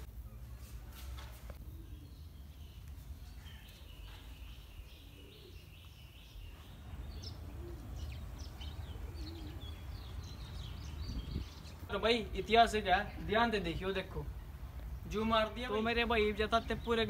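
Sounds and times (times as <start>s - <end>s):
small birds chirping: 1.4s - 17.0s.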